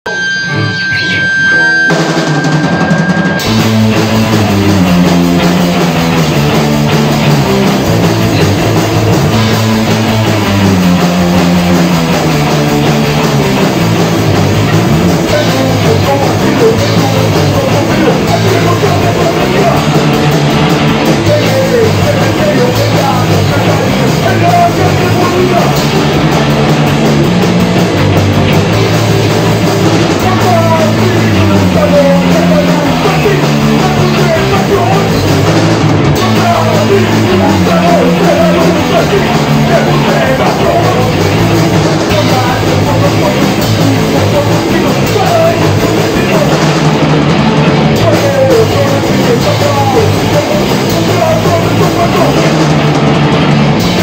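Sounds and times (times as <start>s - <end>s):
bass guitar: 0.0s - 54.0s
electric guitar: 0.0s - 54.0s
drum kit: 0.1s - 54.0s.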